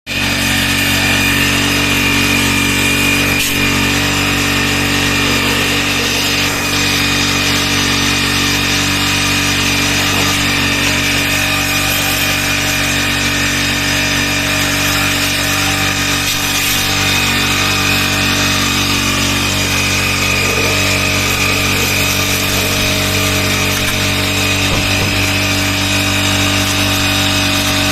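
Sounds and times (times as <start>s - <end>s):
pump motor hum: 0.1s - 27.9s.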